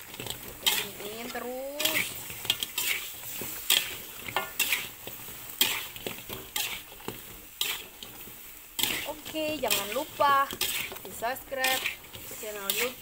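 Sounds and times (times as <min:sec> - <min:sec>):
fritters sizzling in oil: 0:00.0 - 0:13.0
metal spatula scraping pan: 0:00.0 - 0:13.0.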